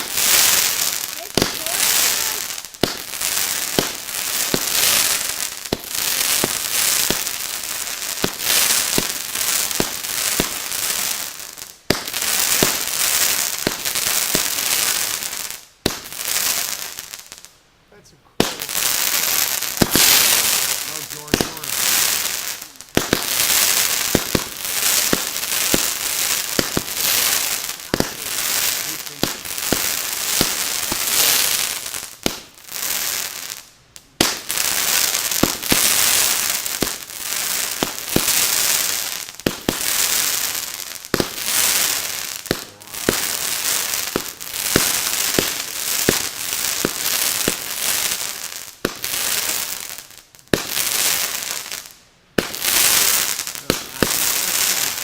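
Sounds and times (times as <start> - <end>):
fireworks popping and banging: 0.0 - 17.4, 18.3 - 55.0
fireworks crackling: 0.0 - 55.0.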